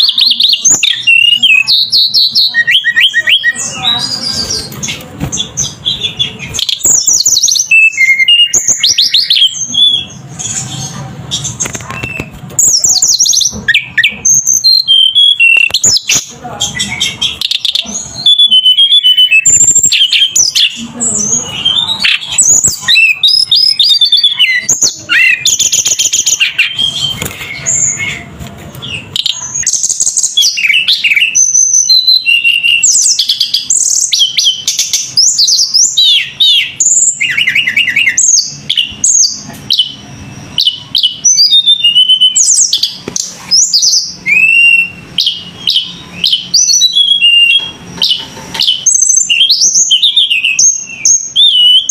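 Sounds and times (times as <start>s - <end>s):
bird singing: 0.0s - 51.9s.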